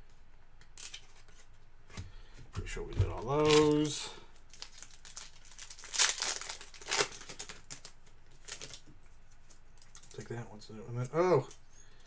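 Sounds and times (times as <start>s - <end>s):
cards and packaging rustling: 0.7s - 11.6s.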